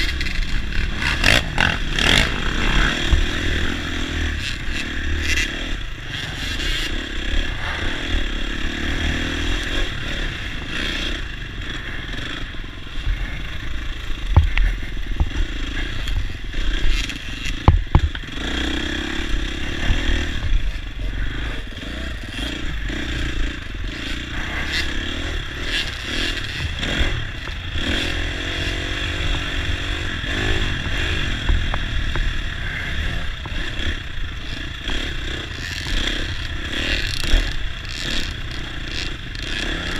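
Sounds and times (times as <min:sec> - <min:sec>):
dirt bike engine revving: 0:00.0 - 0:39.9
rattling and scraping over bumps: 0:00.0 - 0:39.9.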